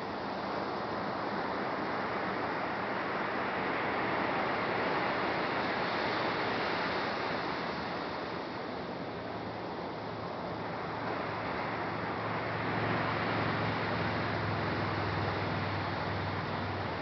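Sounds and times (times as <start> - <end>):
surf breaking on a beach: 0.0 - 17.0.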